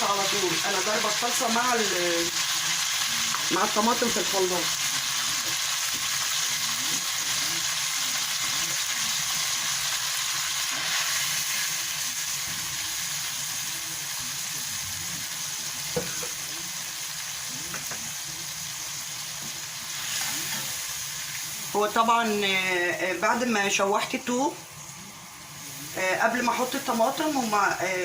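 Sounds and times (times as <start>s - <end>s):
garlic sizzling in oil: 0.0s - 28.0s.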